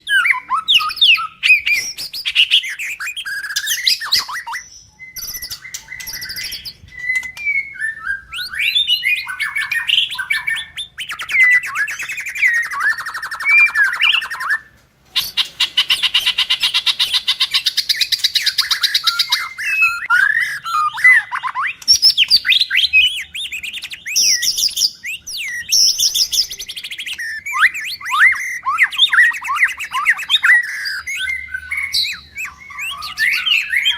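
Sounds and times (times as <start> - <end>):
bird singing whistled phrases: 0.0 - 33.9.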